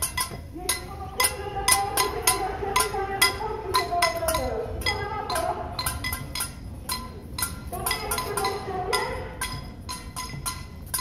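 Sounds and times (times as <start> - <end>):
bells ringing: 0.0 - 11.0.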